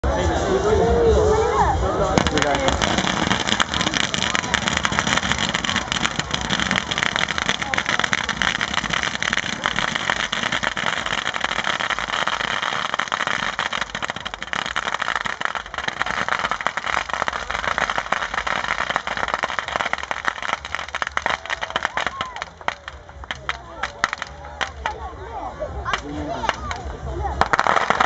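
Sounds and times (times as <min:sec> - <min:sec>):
fire crackling: 0:00.1 - 0:28.0
bonfire flames rushing: 0:01.9 - 0:24.9.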